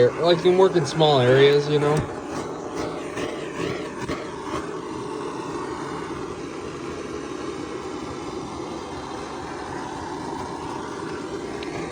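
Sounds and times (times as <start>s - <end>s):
heat gun blowing hot air: 0.0s - 11.9s.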